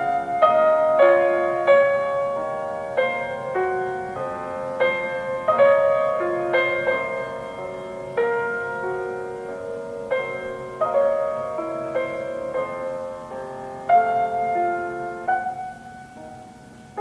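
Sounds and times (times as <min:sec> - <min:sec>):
solo piano piece: 0:00.0 - 0:17.0.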